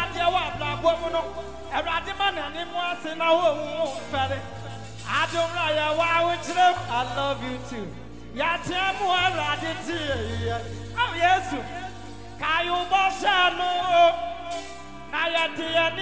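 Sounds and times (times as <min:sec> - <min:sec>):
keyboard: 0:00.0 - 0:16.0
low bass notes: 0:00.0 - 0:16.0
man singing into microphone: 0:00.0 - 0:16.0.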